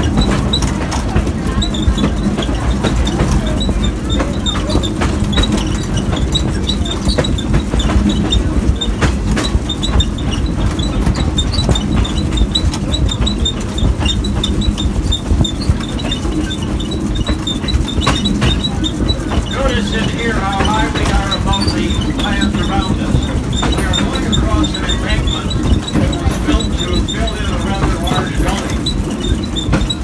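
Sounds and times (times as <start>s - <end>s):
high squeaks: 0.0s - 30.0s
running gear clicks and knocks: 0.0s - 30.0s
train rumbling on track: 0.0s - 30.0s.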